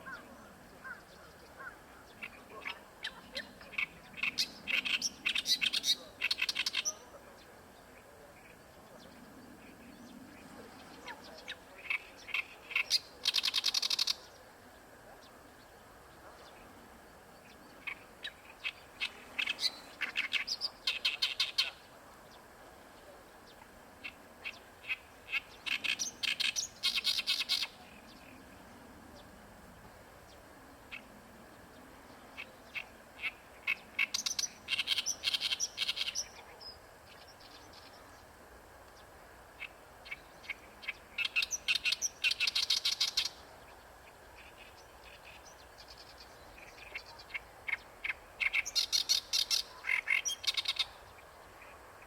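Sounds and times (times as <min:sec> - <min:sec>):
reed warbler singing: 0:00.0 - 0:52.0.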